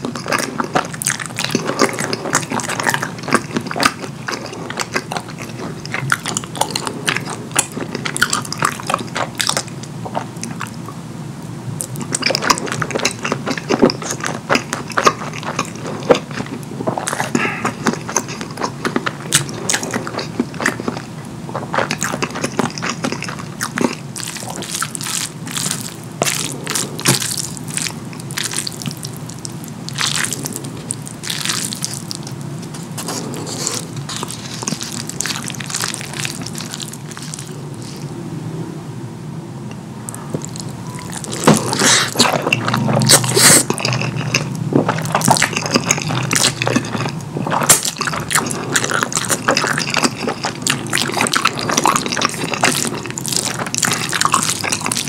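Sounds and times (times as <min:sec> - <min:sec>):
wet chewing and lip-smacking: 0:00.0 - 0:11.0, 0:11.8 - 0:38.1, 0:40.1 - 0:55.0.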